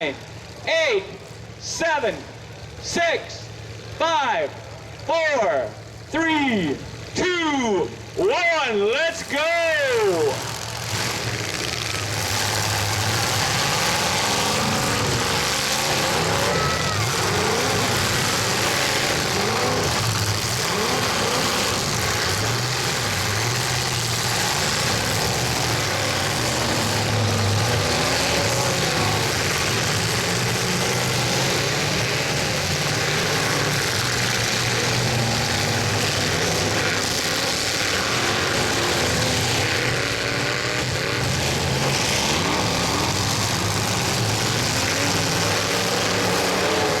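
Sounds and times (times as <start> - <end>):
truck engines revving: 0.0 - 47.0.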